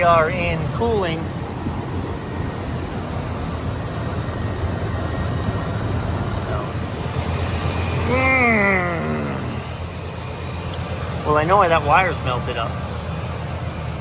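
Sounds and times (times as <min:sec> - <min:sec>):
hvac unit humming: 0:00.0 - 0:14.0.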